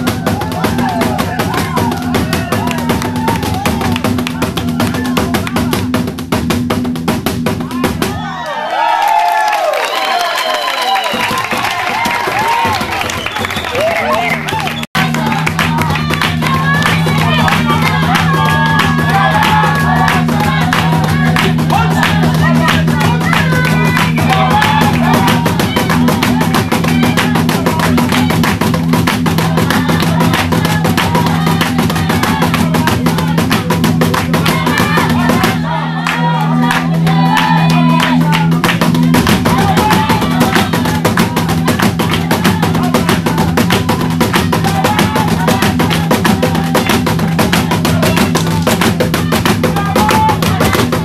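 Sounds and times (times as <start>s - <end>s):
group singing and chanting: 0.0s - 6.6s, 11.4s - 51.0s
fast driving drumming: 0.0s - 8.4s, 10.8s - 51.0s.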